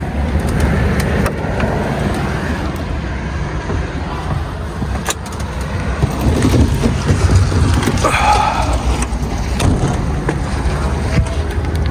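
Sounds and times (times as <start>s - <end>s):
motor vehicle rumble: 0.0s - 11.9s.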